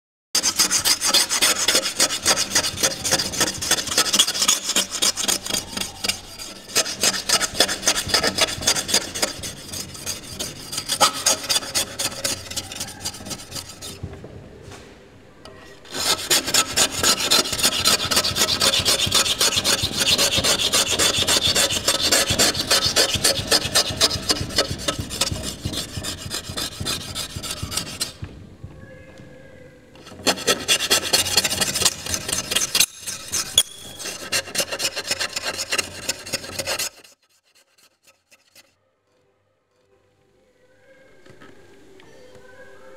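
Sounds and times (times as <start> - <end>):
rapid rhythmic scraping: 0.4 - 14.2, 15.8 - 28.3, 30.0 - 38.7.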